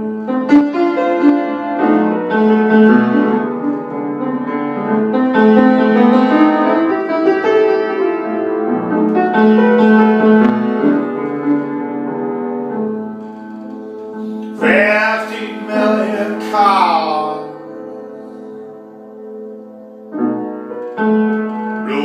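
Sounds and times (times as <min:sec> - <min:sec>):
piano playing chords and melody: 0:00.0 - 0:22.0.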